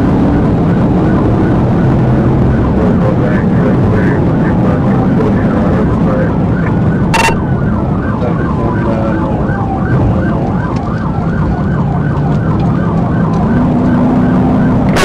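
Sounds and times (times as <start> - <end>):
police siren: 0.0 - 15.0
road and engine noise: 0.0 - 15.0.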